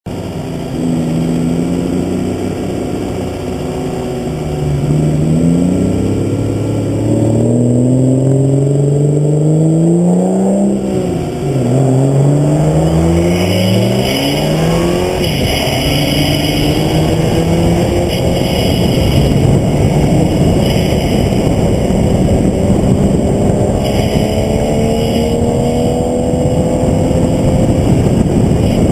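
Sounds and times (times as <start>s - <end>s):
engine accelerating hard: 0.1s - 28.9s.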